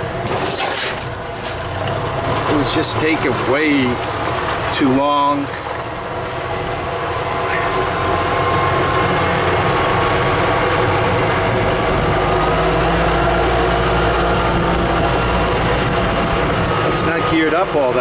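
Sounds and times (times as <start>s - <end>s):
utility cart gas engine running: 0.0s - 18.0s.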